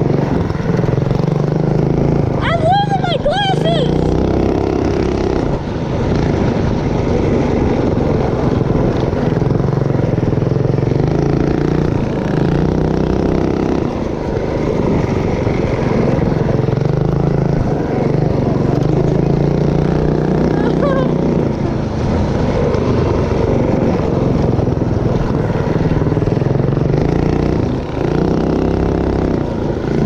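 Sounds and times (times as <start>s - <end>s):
mini bike engine revving: 0.0s - 30.0s.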